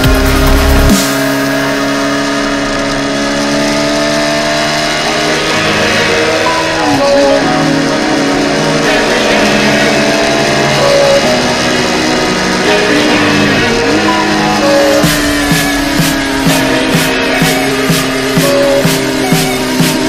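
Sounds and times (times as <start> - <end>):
sustained guitar notes: 0.0 - 20.0.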